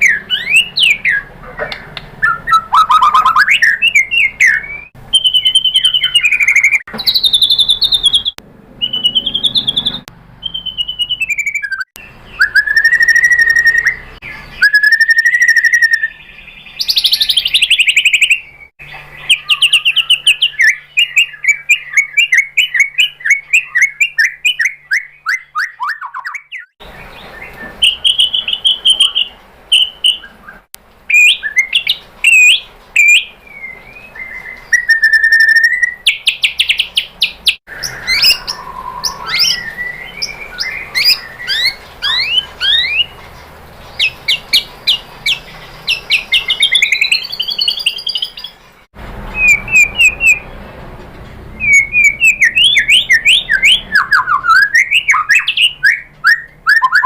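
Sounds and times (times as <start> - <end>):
bird singing whistled notes and trills: 0.0 - 50.7, 51.3 - 57.0.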